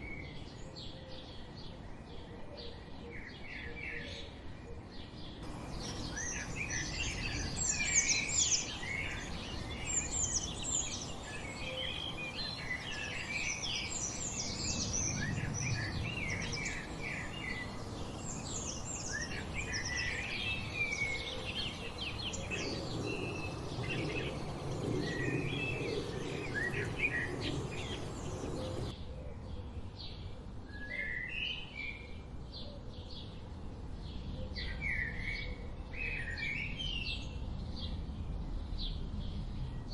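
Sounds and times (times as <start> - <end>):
low steady background noise: 0.0 - 39.9
songbirds chirping and trilling: 0.0 - 39.9.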